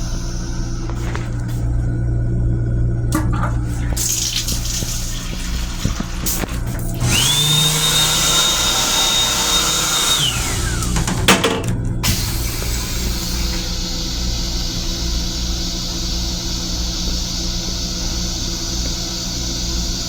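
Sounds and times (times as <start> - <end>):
high whine: 0.0 - 20.0.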